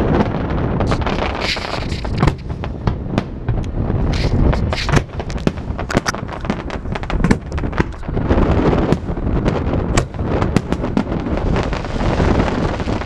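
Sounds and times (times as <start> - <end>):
fireworks bangs and booms: 0.0 - 13.0
fireworks crackling: 0.0 - 13.0.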